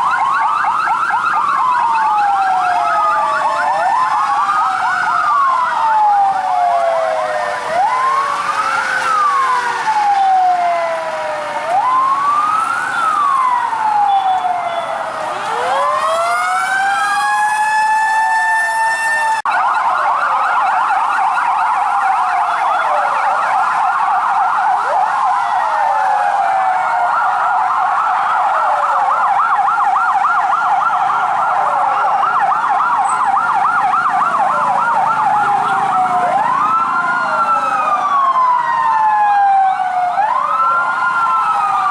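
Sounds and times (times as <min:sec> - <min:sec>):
fire truck sirens wailing: 0:00.0 - 0:41.9
warbling yelp siren: 0:00.0 - 0:41.9.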